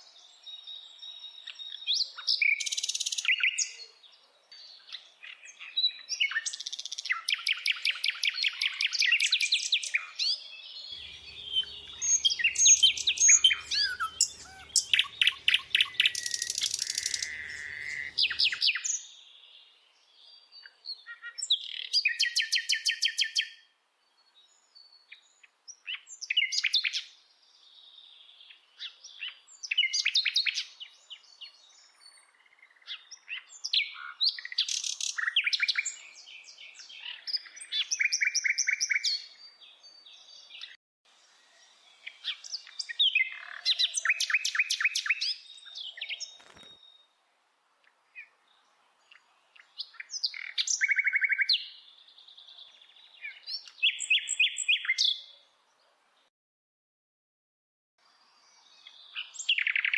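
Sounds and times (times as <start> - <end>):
birds singing: 0.0 - 47.1, 48.1 - 56.3, 58.0 - 59.9.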